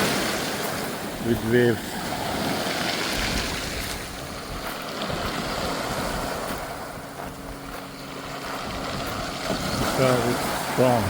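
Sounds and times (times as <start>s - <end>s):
ocean waves washing: 0.0s - 11.0s
wind buffeting microphone: 0.0s - 11.0s.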